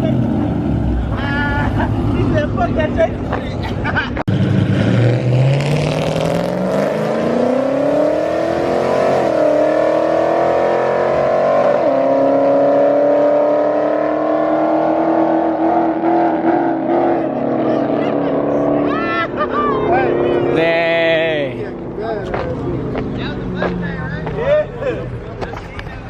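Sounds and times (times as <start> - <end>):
car engine revving: 4.3 - 26.0.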